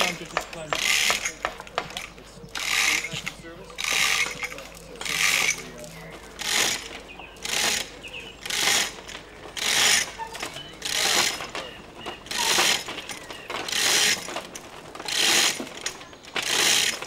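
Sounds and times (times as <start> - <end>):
chain links and ratchet rattling: 0.0 - 17.0.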